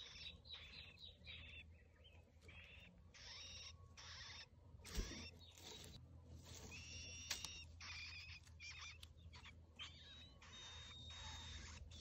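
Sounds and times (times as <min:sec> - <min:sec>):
nestlings cheeping: 0:00.0 - 0:06.0, 0:06.6 - 0:12.0.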